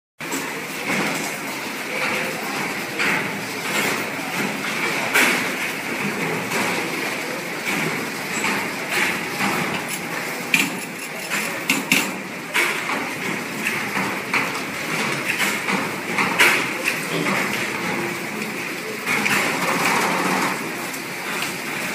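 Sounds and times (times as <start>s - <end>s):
machine clicks and clacks: 0.2s - 21.9s
coil winding machines whirring: 1.9s - 21.9s.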